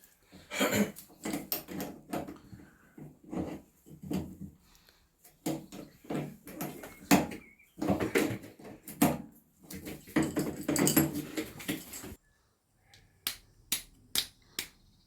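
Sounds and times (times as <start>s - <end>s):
hand tools and metal parts clattering: 0.0s - 12.2s.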